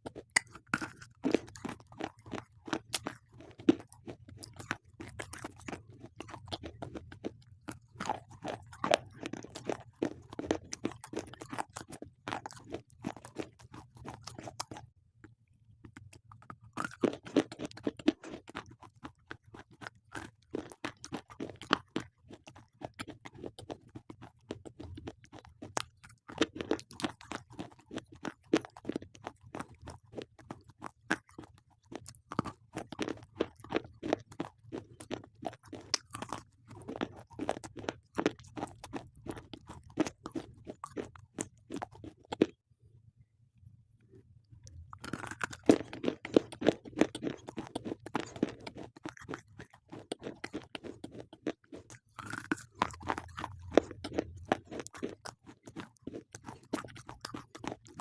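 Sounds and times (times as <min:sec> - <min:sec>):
slate pencils being chewed: 0:00.0 - 0:42.6, 0:44.1 - 0:58.0.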